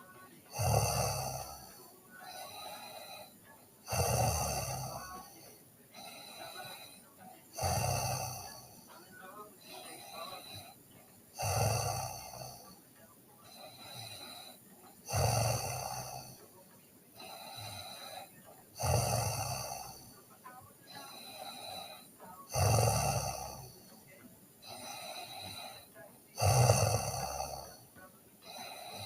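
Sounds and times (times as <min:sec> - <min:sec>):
person snoring: 0:00.0 - 0:16.6, 0:17.2 - 0:24.0, 0:24.6 - 0:29.0
quiet breathing: 0:00.0 - 0:29.0.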